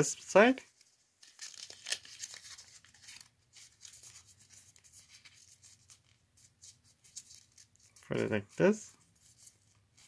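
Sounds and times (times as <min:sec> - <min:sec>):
paper rustling as folded: 0:00.6 - 0:10.0.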